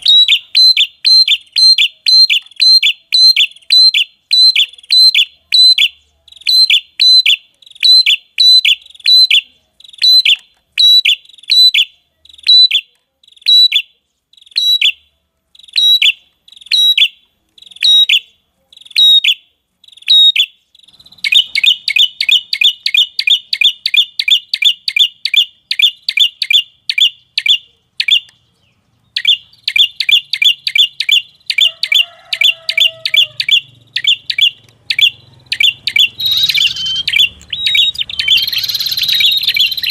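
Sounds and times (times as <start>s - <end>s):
sharp high bird chirps: 0.0s - 39.9s.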